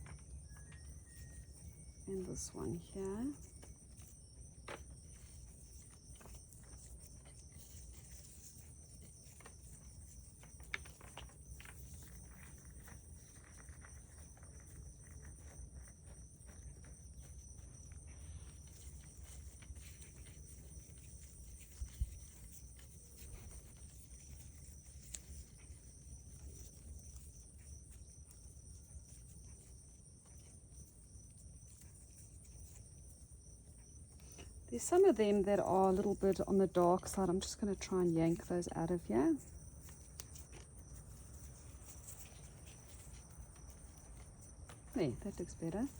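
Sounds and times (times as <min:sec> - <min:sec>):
clicks and knocks handling soil: 0:00.0 - 0:45.9
insects trilling: 0:00.0 - 0:45.9.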